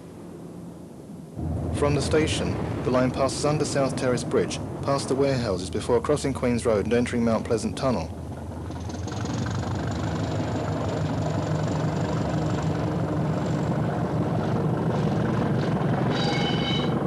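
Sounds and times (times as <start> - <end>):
diesel train engine rumble: 1.4 - 17.0.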